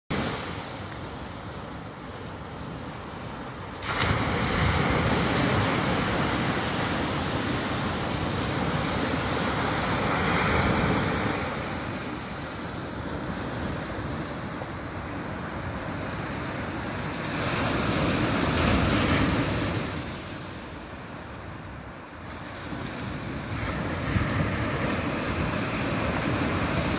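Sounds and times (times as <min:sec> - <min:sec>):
waves washing in: 0:00.1 - 0:26.9.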